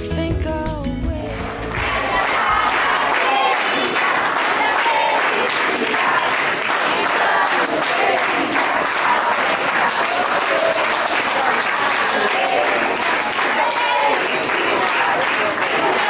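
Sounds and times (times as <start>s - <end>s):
crowd applauding: 1.2s - 16.0s
scattered voices: 1.2s - 16.0s.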